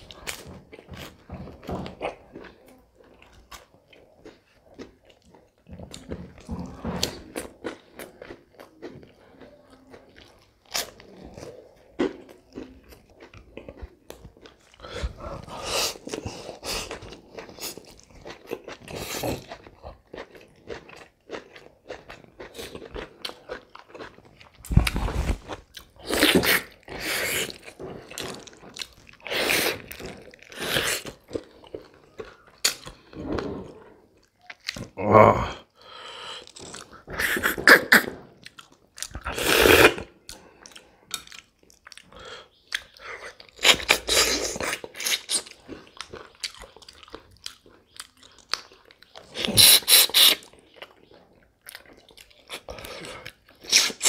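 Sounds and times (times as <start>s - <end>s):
wet chewing with smacking: 0.0s - 34.9s, 36.4s - 54.0s.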